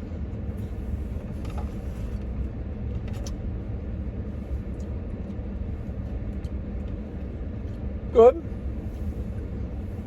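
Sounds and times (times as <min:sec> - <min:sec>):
low rumble inside vehicle: 0:00.0 - 0:10.0.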